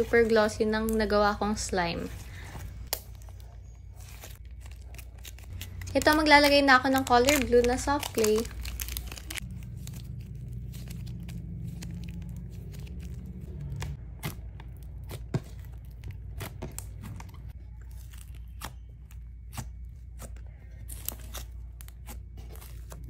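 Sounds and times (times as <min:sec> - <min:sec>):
hands kneading sticky slime: 0:00.0 - 0:23.0
low steady hum: 0:00.0 - 0:23.0.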